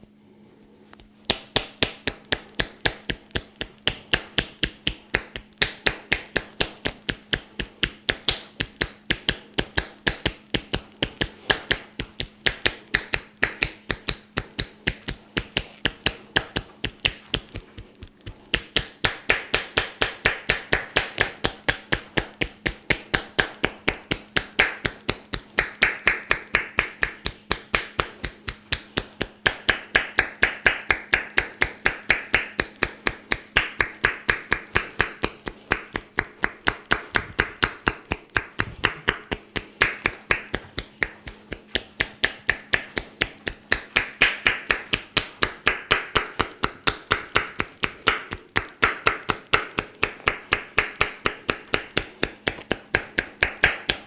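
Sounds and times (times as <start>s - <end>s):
hands slapping in massage: 1.0s - 54.0s.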